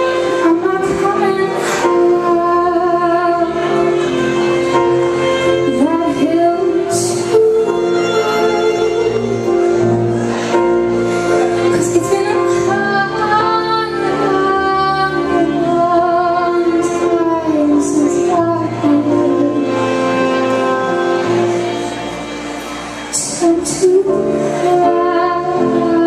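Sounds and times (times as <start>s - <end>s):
woman singing: 0.0s - 4.0s, 5.6s - 9.5s, 11.7s - 21.9s, 23.2s - 26.0s
live band instrumental chords: 0.0s - 26.0s.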